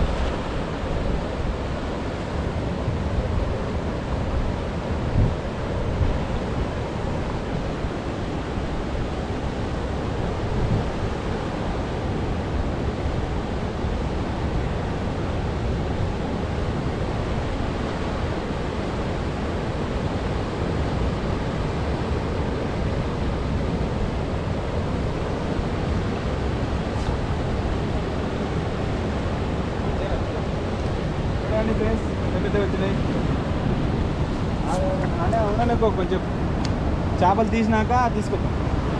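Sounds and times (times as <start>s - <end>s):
river water rushing through rapids: 0.0s - 38.9s
wind rumbling on microphone: 0.0s - 38.9s.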